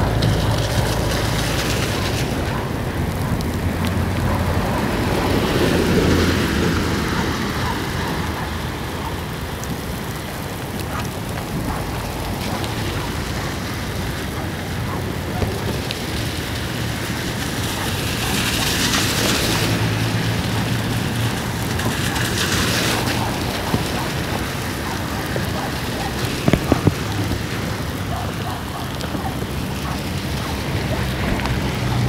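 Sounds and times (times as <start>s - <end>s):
heavy rain pouring: 0.0s - 32.0s
vehicles driving through water: 0.0s - 32.0s.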